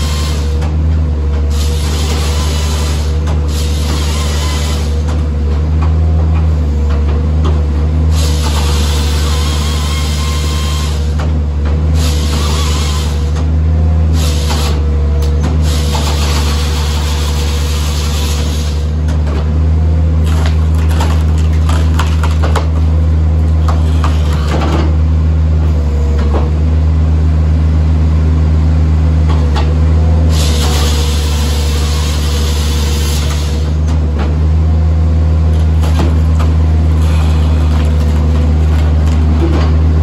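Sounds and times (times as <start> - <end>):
skid steer engine running: 0.0 - 40.0.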